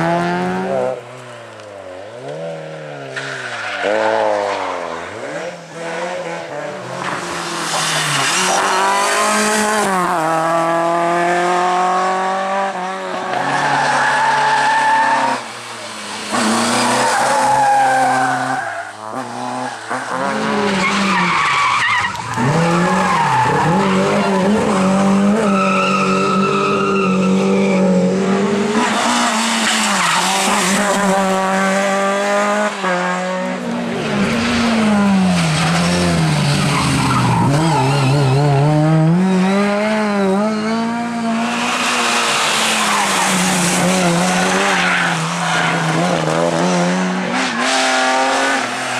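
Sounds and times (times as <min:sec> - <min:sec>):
rally car engines revving: 0:00.0 - 0:48.9
tyres skidding and squealing: 0:01.2 - 0:11.0, 0:12.9 - 0:33.0, 0:33.8 - 0:48.9.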